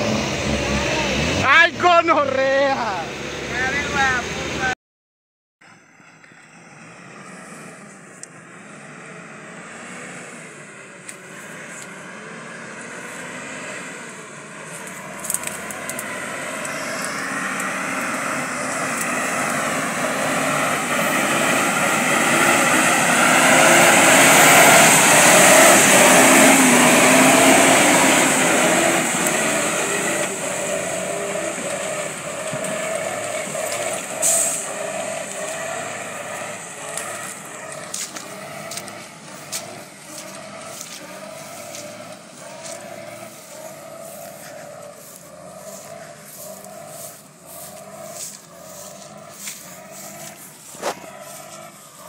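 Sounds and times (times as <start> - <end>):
truck engine passing: 0.0 - 4.8, 5.6 - 52.0.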